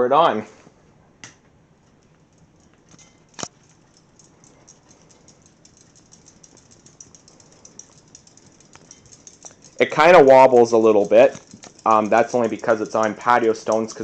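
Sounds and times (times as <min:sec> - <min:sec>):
ceiling fan ticking: 0:01.2 - 0:14.0.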